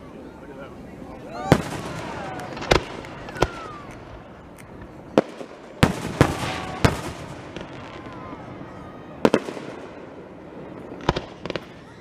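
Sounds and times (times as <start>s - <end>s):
fireworks bangs: 1.4s - 12.0s.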